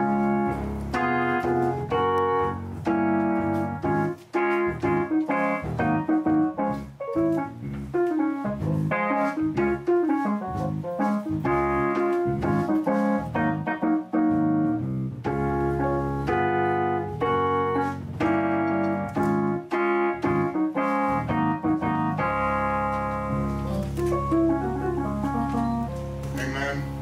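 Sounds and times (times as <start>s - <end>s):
electronic keyboard playing chords: 0.0s - 27.0s.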